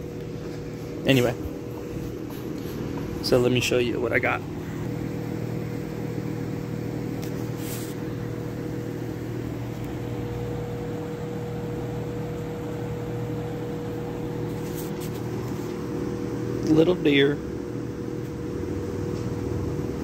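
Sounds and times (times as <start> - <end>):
machine hum with steady tone: 0.0 - 20.0.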